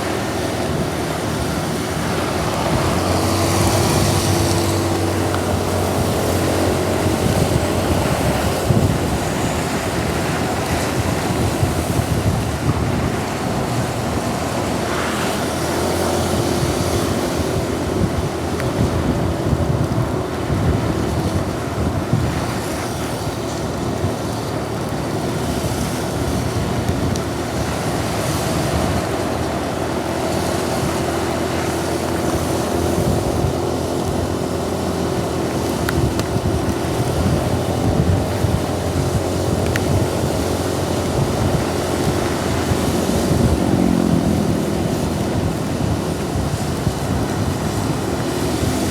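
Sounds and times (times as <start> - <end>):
heavy rain: 0.0 - 48.9
wet road traffic: 0.0 - 48.9
wind buffeting microphone: 0.0 - 48.9.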